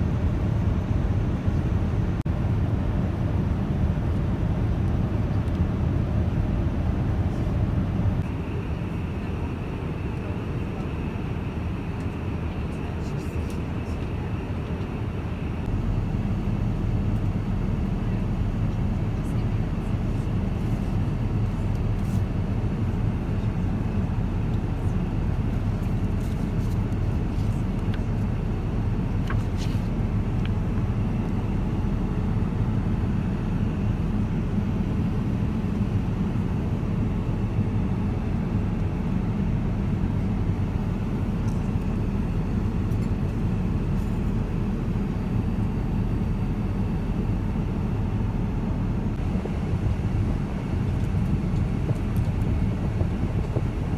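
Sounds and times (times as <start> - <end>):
aircraft cabin engine rumble: 0.0 - 53.9.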